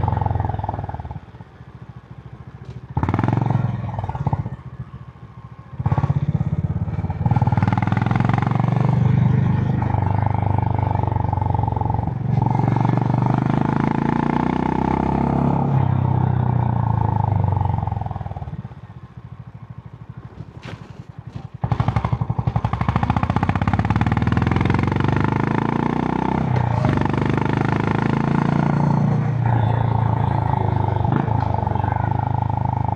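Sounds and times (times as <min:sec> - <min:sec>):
motorcycle engine: 0:00.0 - 0:32.9.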